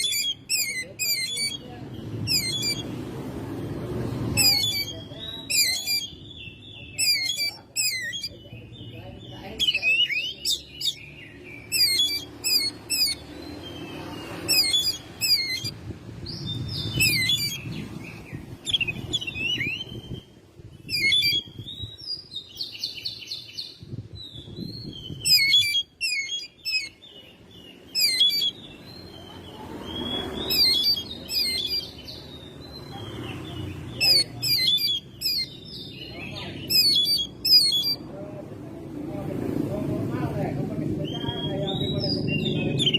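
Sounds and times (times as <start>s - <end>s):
bird singing whistled notes: 0.0s - 2.9s, 4.3s - 38.0s, 41.0s - 42.9s.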